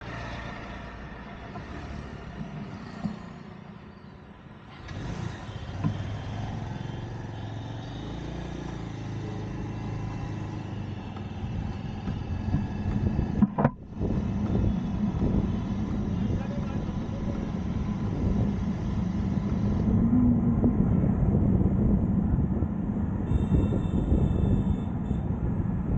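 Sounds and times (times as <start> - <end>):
vehicle engine drone and tyre noise: 0.0 - 25.9.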